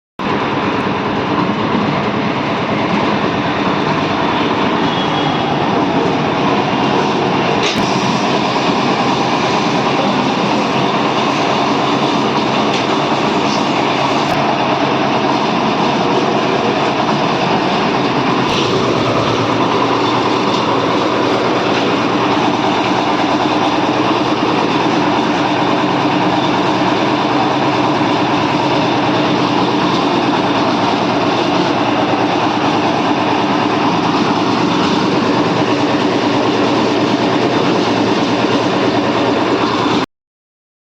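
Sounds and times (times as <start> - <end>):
concrete mixer rumbling: 0.2 - 40.0.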